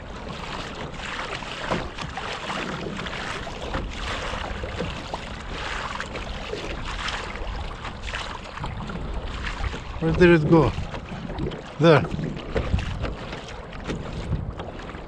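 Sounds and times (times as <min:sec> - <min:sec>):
water splashing against kayak hull: 0:00.0 - 0:15.0
wind rumbling on microphone: 0:00.0 - 0:15.0.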